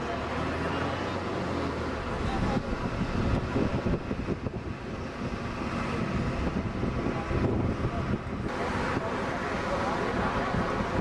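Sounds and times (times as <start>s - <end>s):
bus engine and road noise: 0.0s - 11.0s
wind buffeting microphone: 1.9s - 11.0s.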